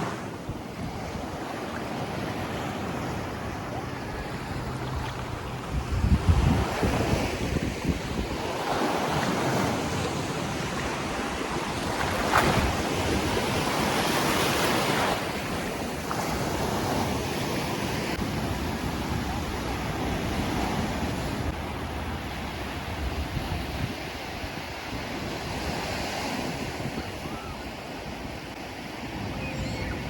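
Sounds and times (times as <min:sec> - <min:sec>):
surf washing up a beach: 0:00.0 - 0:30.0.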